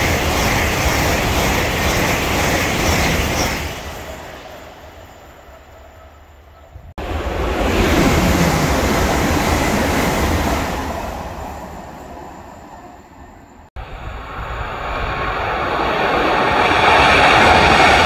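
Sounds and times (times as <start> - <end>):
electric train passing: 0.0 - 18.0
train running noise: 0.0 - 18.0.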